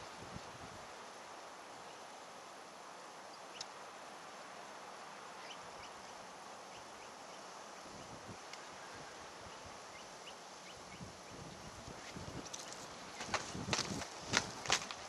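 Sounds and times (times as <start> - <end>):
faint wind: 0.0 - 15.0.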